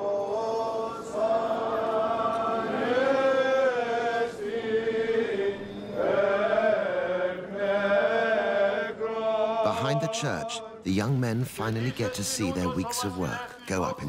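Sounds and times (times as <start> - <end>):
voices chanting long held notes: 0.0 - 14.0.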